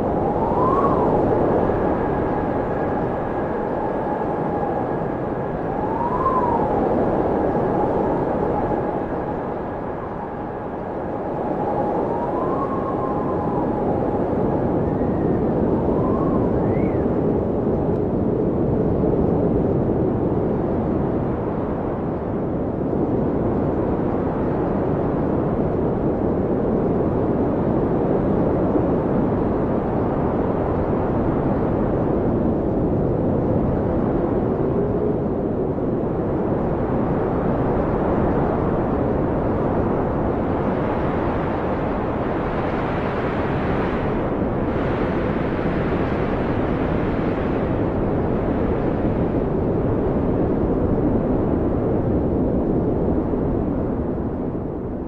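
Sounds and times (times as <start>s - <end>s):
deep snowstorm wind: 0.0s - 55.0s
faint howling wind tones: 0.0s - 55.0s.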